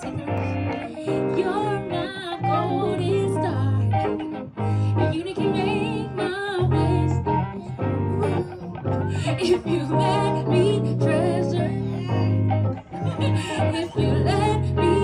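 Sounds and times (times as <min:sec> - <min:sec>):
bass notes: 0:00.0 - 0:15.0
guitar: 0:00.0 - 0:15.0
person singing with vibrato: 0:00.0 - 0:15.0.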